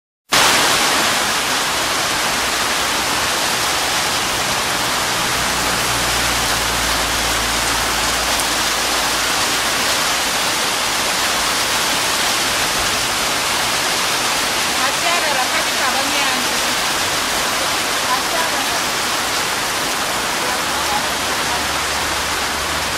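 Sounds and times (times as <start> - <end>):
heavy rain pouring: 0.3 - 22.9.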